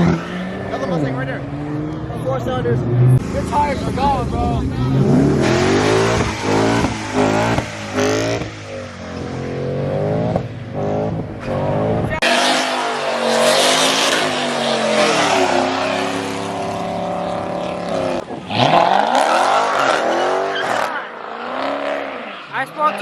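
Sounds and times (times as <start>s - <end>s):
tires squealing: 0.0s - 10.5s, 11.4s - 23.0s
car engine revving: 0.0s - 23.0s.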